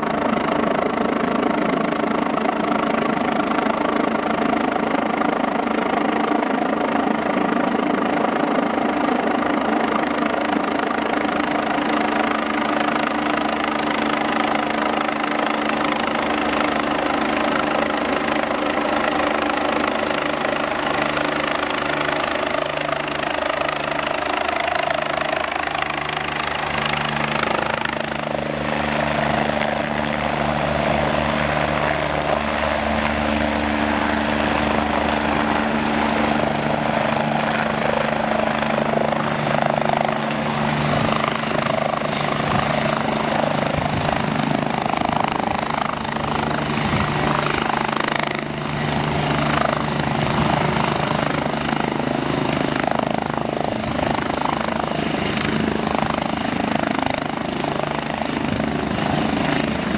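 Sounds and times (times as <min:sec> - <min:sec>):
helicopter rotor and engines: 0:00.0 - 0:59.9.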